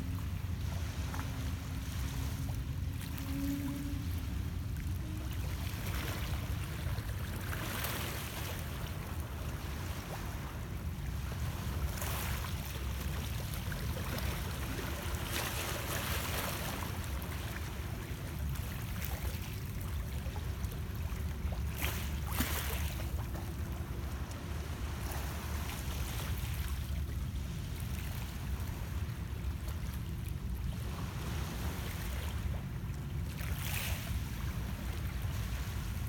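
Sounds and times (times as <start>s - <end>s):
waves lapping on rocks: 0.0s - 36.0s.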